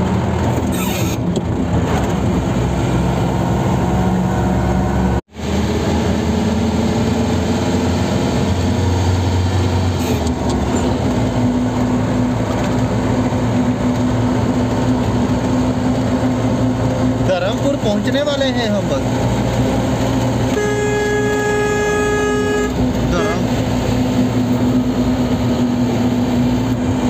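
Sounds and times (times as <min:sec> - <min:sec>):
car engine hum: 0:00.0 - 0:27.0.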